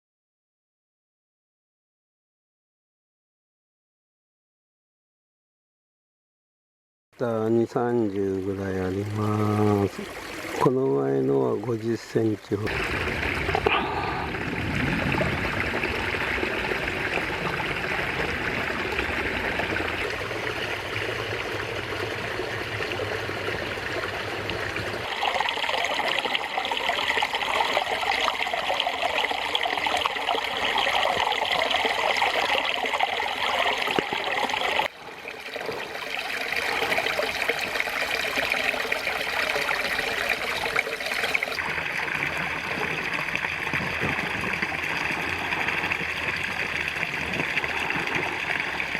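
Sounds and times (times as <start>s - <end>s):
stream water babbling over rocks: 7.2s - 48.9s.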